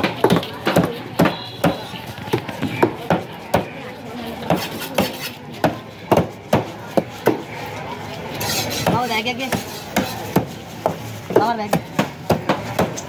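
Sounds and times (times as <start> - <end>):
knife chopping fish on wood: 0.0 - 3.7, 4.4 - 7.4, 8.7 - 13.0.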